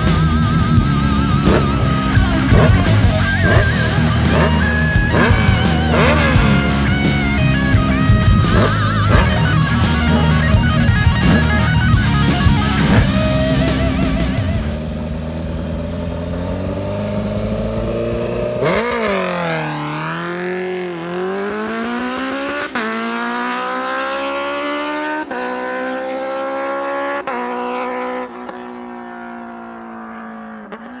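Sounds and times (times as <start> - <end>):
motorcycle accelerating hard: 0.0 - 31.0.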